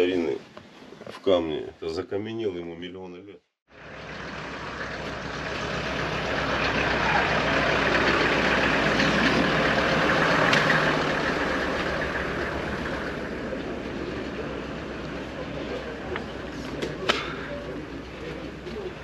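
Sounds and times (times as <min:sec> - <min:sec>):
vehicle engine idling: 0:03.7 - 0:19.0.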